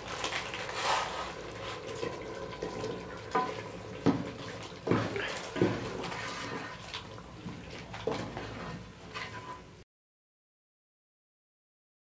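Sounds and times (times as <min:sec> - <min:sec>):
wooden spoon stirring: 0:00.0 - 0:09.6.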